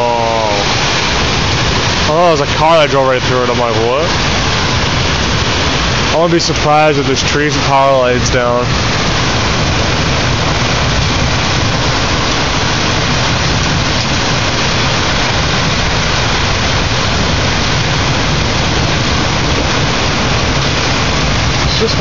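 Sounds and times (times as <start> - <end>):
heavy rain pouring: 0.0 - 22.0
low thunder rumble: 0.0 - 22.0.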